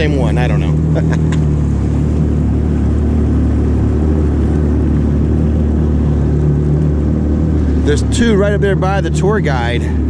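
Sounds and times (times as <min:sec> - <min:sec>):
jet ski engine idling: 0:00.0 - 0:10.0.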